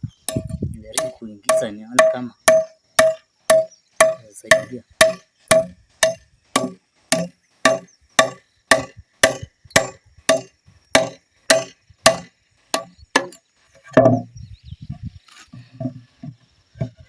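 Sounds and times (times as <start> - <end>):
tool striking wood: 0.3 - 14.3.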